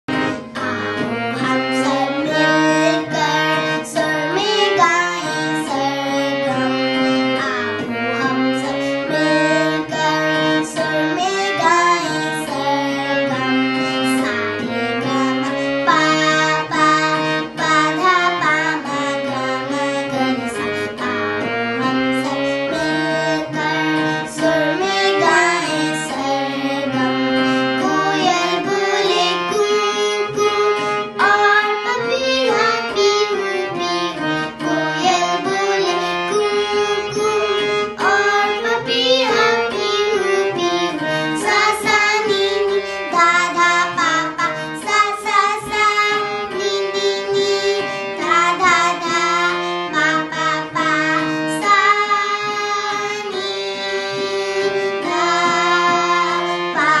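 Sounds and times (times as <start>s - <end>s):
girl singing: 0.1s - 57.0s.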